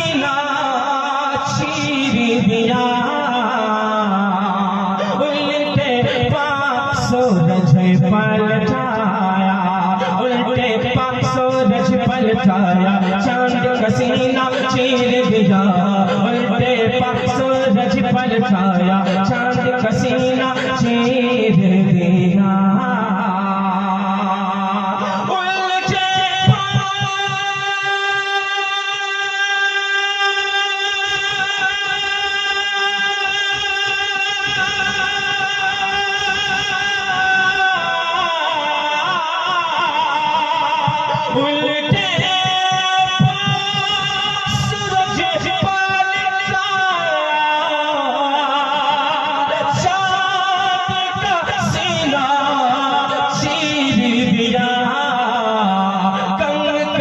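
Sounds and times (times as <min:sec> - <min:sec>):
person singing with vibrato: 0:00.0 - 0:57.0.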